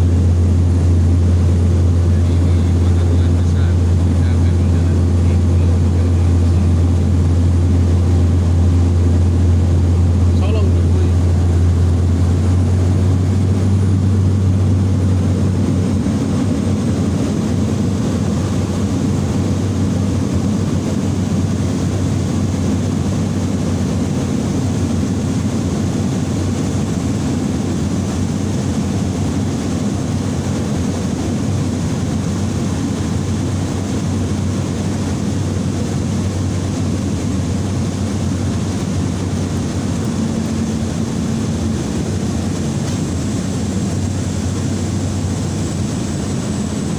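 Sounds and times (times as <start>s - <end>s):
propeller plane cabin drone: 0.0s - 46.9s.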